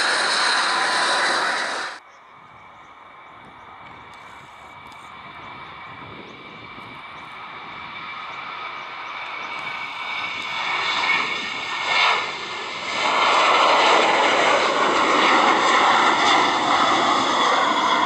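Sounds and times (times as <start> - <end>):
jet engine whine over rumble: 0.0 - 18.0
jet engines roaring: 0.0 - 18.0.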